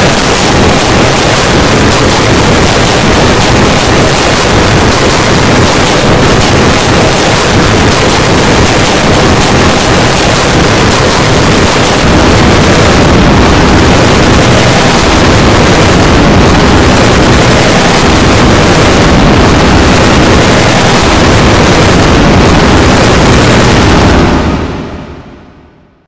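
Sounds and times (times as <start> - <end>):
distorted alarm noise: 0.0 - 26.0.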